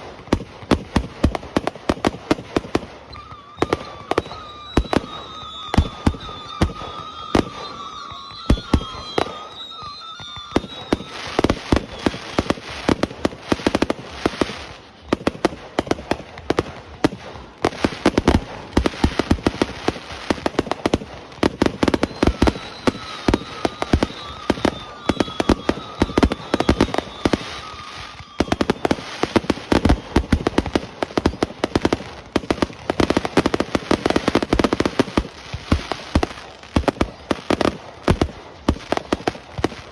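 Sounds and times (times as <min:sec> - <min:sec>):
fireworks bangs and crackling: 0:00.0 - 0:39.9
high whistle: 0:02.6 - 0:15.5, 0:17.4 - 0:39.9.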